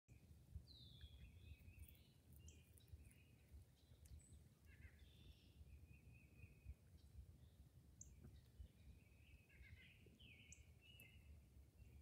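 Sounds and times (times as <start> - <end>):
faint low rumble: 0.1 - 12.0.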